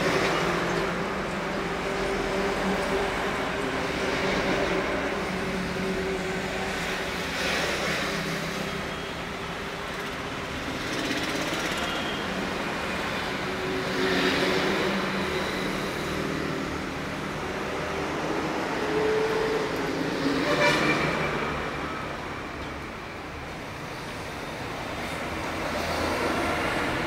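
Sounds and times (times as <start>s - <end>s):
road traffic engine hum: 0.0s - 27.0s.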